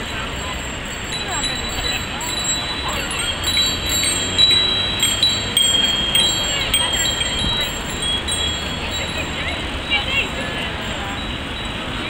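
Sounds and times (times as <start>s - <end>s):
bicycle bells ringing: 0.0s - 12.0s.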